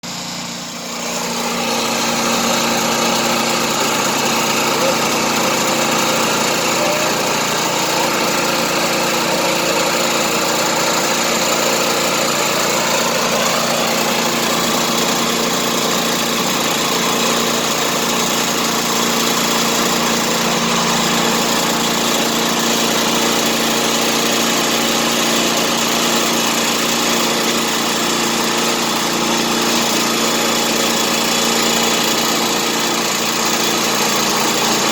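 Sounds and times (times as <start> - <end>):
small gasoline engine running: 0.0 - 34.9.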